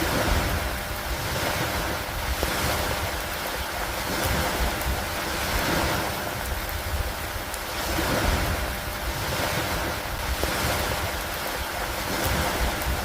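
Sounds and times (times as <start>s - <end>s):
low wind-like rumble: 0.0s - 13.0s
rain falling on wood and water: 0.0s - 13.0s.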